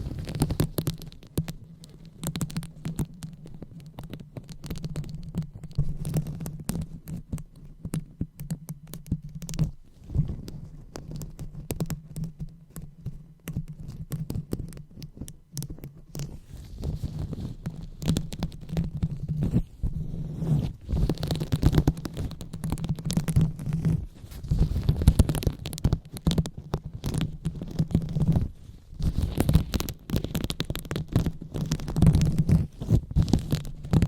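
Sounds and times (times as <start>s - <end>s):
fingers rubbing on microphone: 0.0s - 34.0s.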